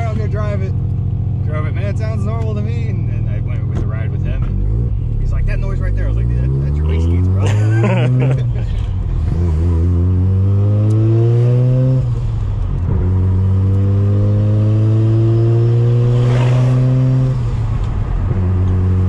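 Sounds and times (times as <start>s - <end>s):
rotary engine accelerating: 2.6s - 19.0s.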